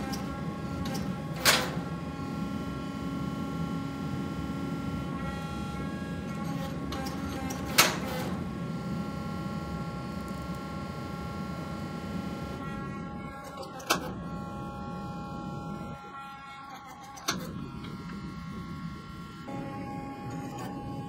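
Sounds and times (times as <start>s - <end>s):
press motor hum: 0.0s - 21.0s.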